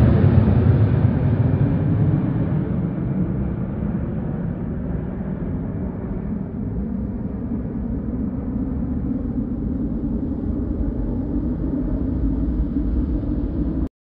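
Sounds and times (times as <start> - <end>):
jet engines rumbling: 0.0 - 13.9.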